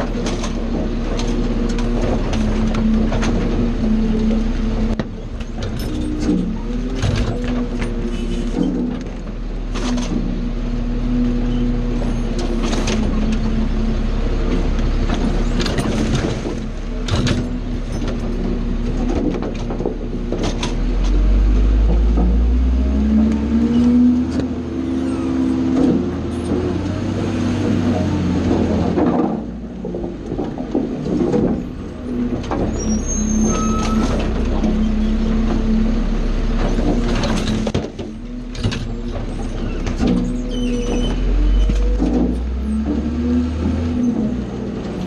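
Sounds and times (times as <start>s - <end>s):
diesel garbage truck engine revving: 0.0s - 45.0s
hydraulic lifting arm: 0.0s - 45.0s.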